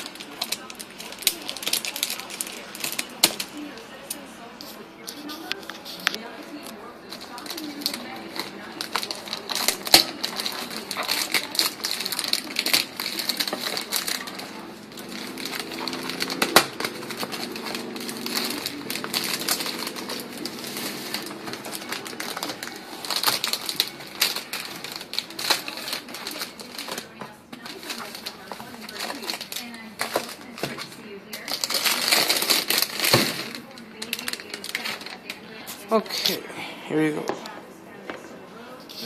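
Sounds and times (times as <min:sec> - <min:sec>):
plastic wrap crinkling: 0:00.0 - 0:36.3.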